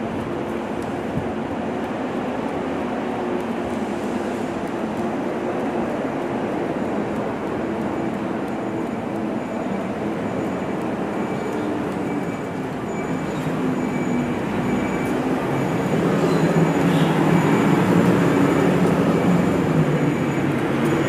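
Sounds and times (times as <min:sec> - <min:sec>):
truck diesel engine drone: 0:00.0 - 0:21.0.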